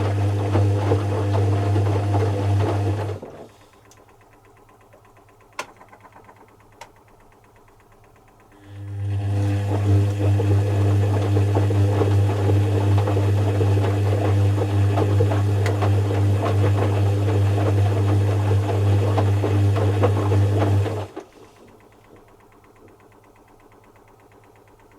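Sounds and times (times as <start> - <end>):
washing machine humming and rattling: 0.0 - 24.9.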